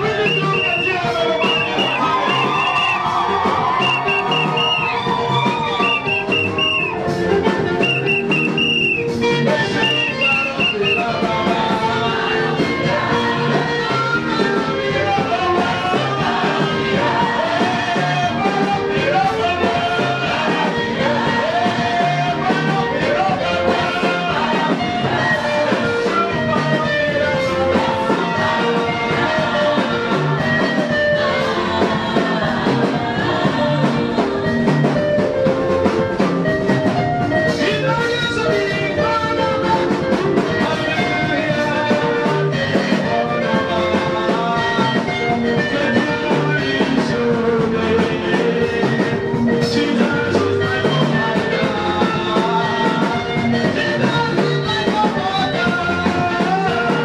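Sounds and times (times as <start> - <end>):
person singing into microphone: 0.0 - 5.0, 5.7 - 35.6, 37.2 - 57.0
choir singing: 0.0 - 36.3, 37.1 - 57.0
amplified backing music: 0.0 - 57.0.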